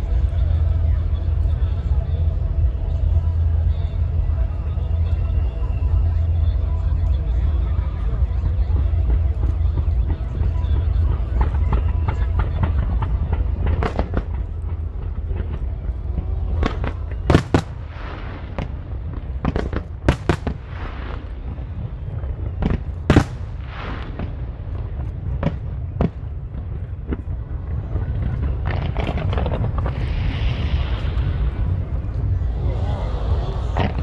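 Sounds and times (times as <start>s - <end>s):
fireworks bursting with sharp bangs: 0.0s - 34.0s
low rumble: 0.0s - 34.0s.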